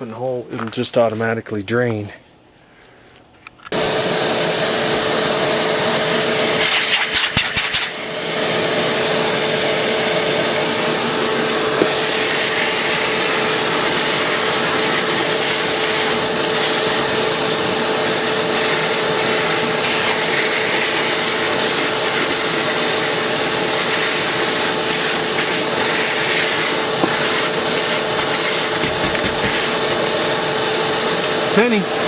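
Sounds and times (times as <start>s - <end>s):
shop vac motor whine: 3.7s - 32.0s.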